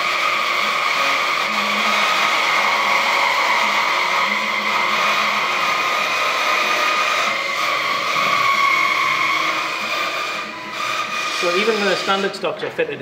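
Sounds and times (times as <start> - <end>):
bandsaw whine cutting wood: 0.0 - 12.6.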